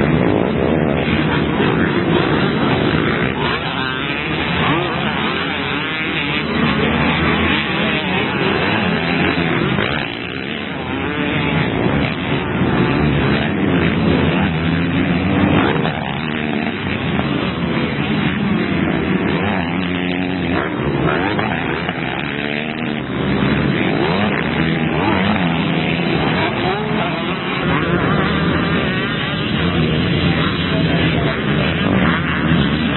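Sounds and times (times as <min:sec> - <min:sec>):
motocross engines revving: 0:00.0 - 0:32.9.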